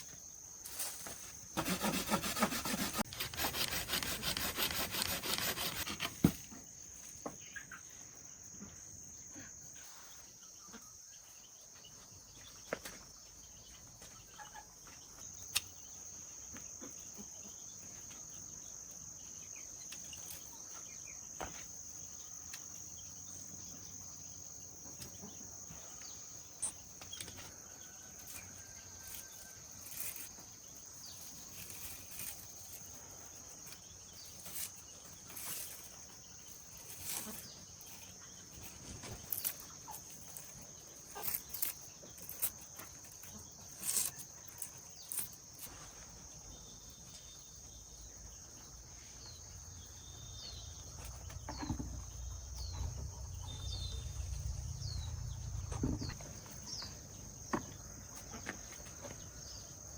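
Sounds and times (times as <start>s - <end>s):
insects trilling: 0.0s - 12.4s, 13.2s - 59.9s.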